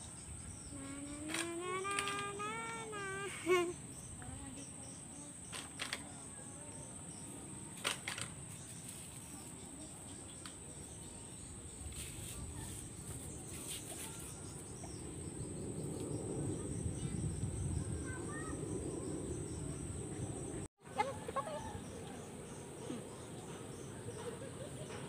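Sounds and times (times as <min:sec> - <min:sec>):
insects chirring: 0:00.0 - 0:24.9
faint outdoor background noise: 0:00.0 - 0:25.0.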